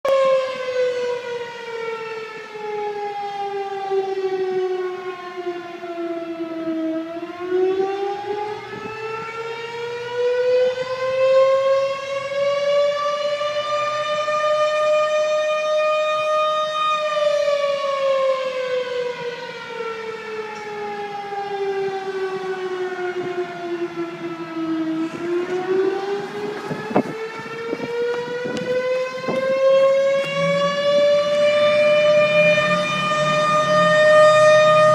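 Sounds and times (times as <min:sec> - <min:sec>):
fire engine siren wailing: 0:00.0 - 0:34.9.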